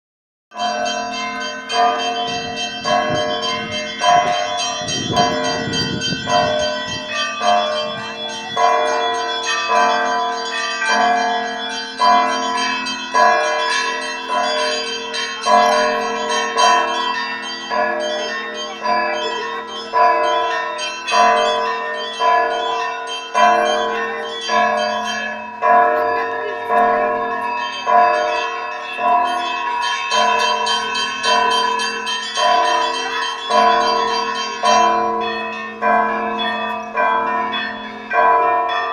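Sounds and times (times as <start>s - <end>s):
church bells ringing a peal: 0.5s - 38.9s.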